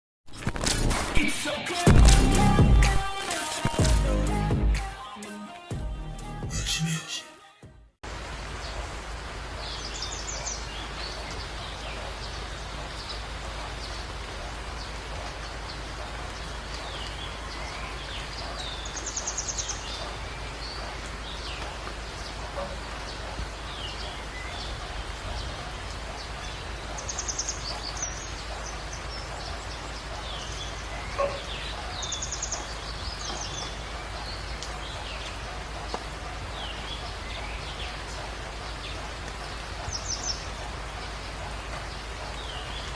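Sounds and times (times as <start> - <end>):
steady rain falling: 0.3 - 4.9, 8.0 - 42.9
birds chirping and trilling: 8.5 - 42.9.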